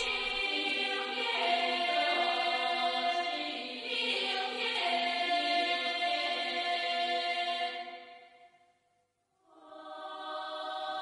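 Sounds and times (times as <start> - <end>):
choir chanting: 0.0 - 8.4, 9.5 - 11.0.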